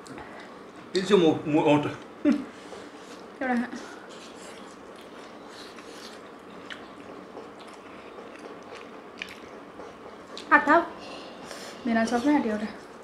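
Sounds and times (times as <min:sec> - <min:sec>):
soft chewing: 0:02.0 - 0:13.0.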